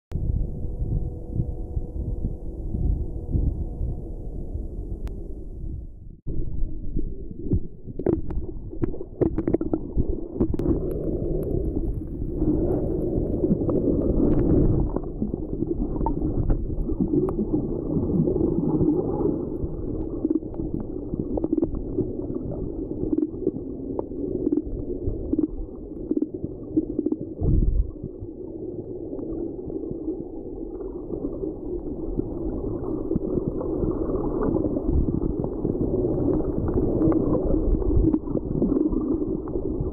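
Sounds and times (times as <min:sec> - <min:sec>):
underwater rumble and gurgling: 0:00.1 - 0:39.9.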